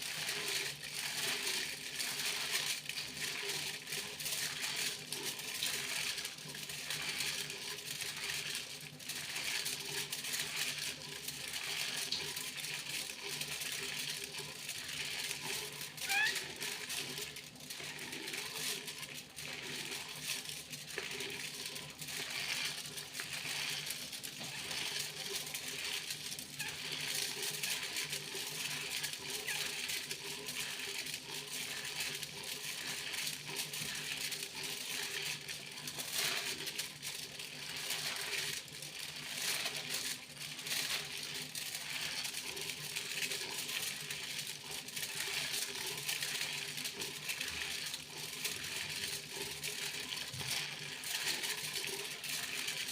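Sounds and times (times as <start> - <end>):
foil crinkling: 0.0 - 52.9.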